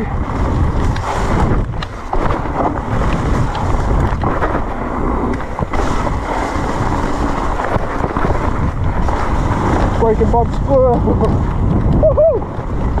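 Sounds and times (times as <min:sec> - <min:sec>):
bike knocking and rattling: 0:00.0 - 0:13.0
bike tyre noise: 0:00.0 - 0:13.0
wind buffeting microphone: 0:00.0 - 0:13.0.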